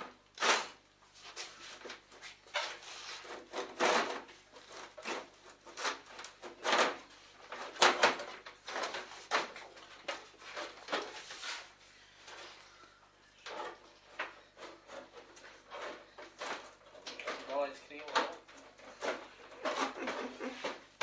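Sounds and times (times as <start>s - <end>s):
scraping on sheet metal: 0.0s - 9.3s, 10.4s - 11.8s, 13.4s - 17.4s, 18.4s - 20.9s.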